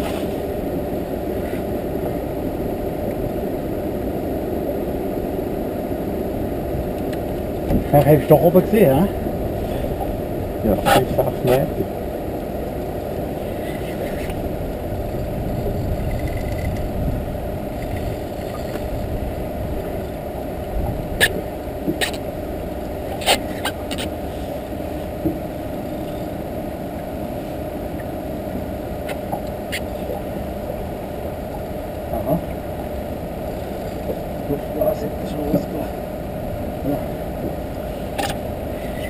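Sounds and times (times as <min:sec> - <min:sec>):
boat engine idling: 0:00.0 - 0:39.0.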